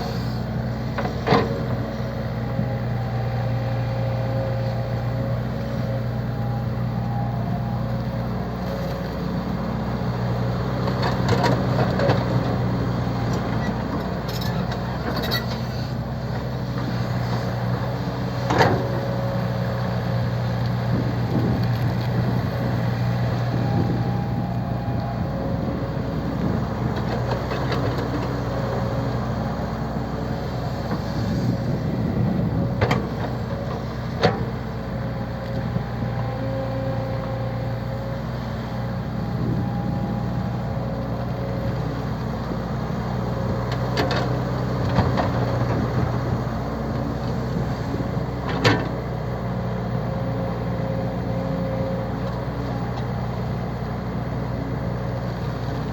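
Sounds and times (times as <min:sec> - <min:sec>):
truck engine droning: 0:00.0 - 0:55.9.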